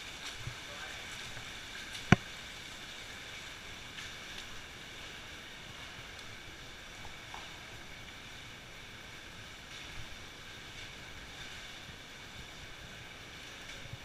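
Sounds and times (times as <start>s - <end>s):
stream water rushing over rocks: 0.0s - 14.0s.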